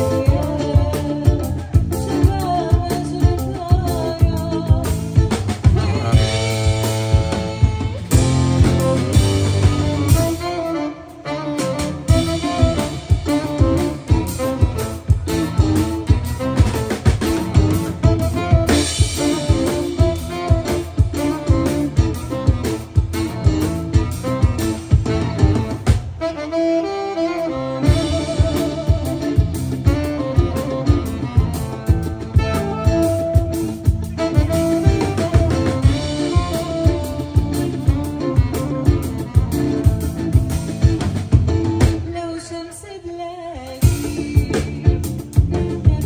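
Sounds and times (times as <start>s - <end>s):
steady drum beat: 0.0s - 26.5s, 27.8s - 42.2s, 43.8s - 46.0s.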